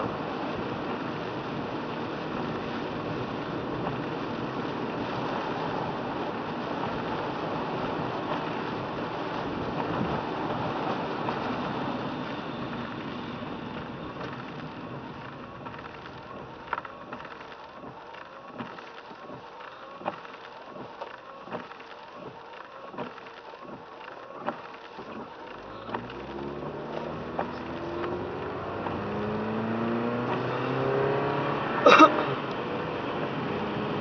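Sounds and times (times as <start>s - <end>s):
tyre hiss on wet road: 0.0s - 32.5s
car engine accelerating: 0.0s - 34.0s.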